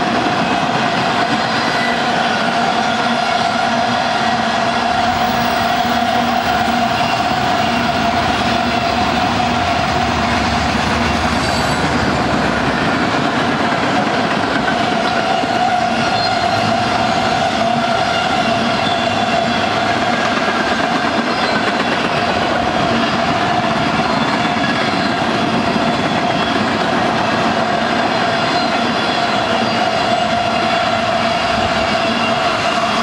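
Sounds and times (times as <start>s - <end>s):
freight train rolling past: 0.0s - 33.0s.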